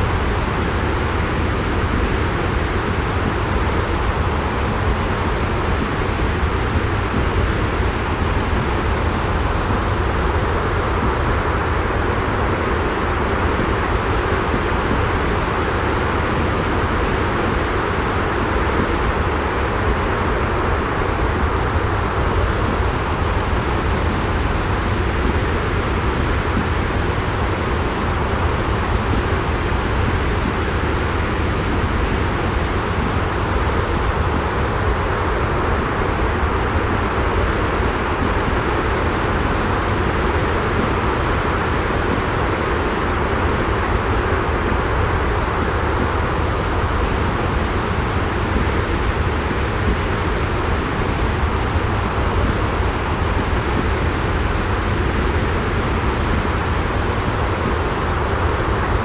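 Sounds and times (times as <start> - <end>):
deep white noise: 0.0 - 59.0.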